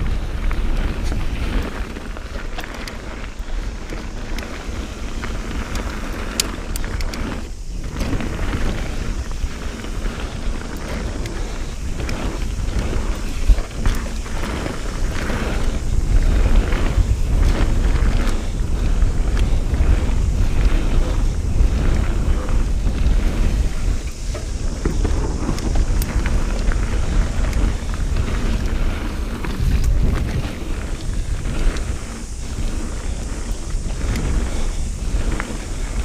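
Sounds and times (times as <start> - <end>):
bike clicking and rattling: 0.0 - 36.0
tyres on loose ground: 0.0 - 36.0
wind buffeting microphone: 0.0 - 36.0.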